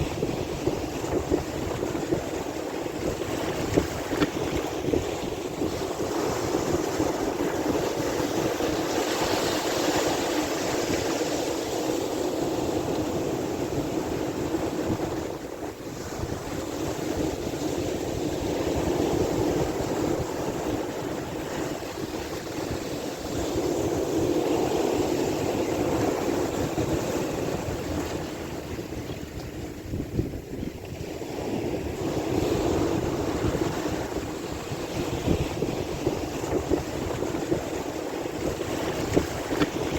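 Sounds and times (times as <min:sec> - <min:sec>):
sea waves washing in: 0:00.0 - 0:39.9
wind rumble on microphone: 0:00.0 - 0:39.9.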